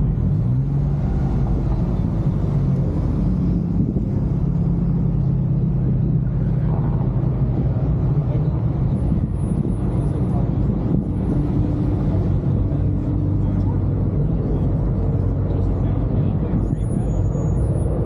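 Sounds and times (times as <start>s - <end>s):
car engine and exhaust droning: 0.0s - 18.0s.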